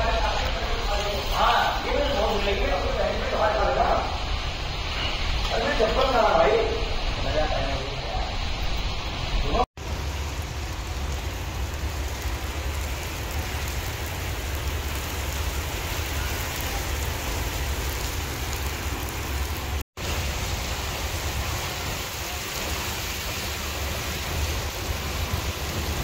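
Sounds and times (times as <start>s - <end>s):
heavy rain on pavement: 0.0s - 26.0s.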